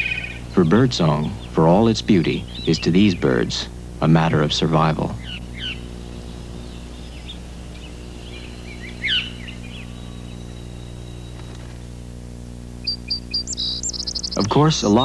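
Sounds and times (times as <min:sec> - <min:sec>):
thrush singing: 0:00.0 - 0:12.0
steady low hum: 0:00.0 - 0:15.0.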